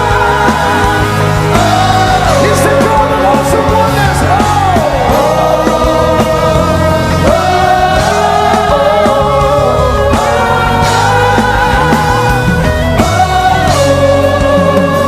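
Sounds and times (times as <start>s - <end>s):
band with guitar and bass: 0.0s - 15.0s.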